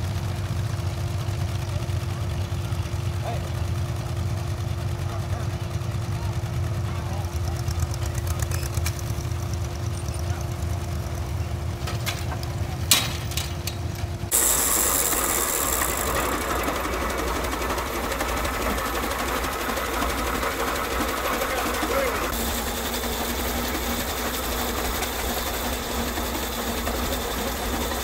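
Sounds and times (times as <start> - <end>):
hissy steam tractor running: 0.0 - 28.0
tractor engine running: 0.0 - 28.0.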